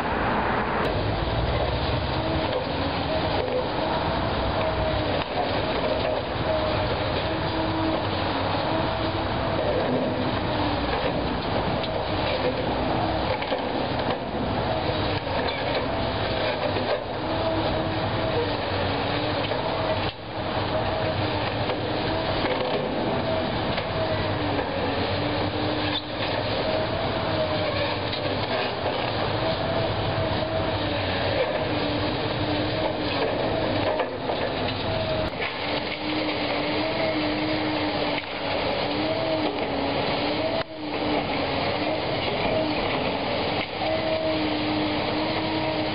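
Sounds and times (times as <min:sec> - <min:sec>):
excavator engine and hydraulics whining: 0:00.0 - 0:45.9.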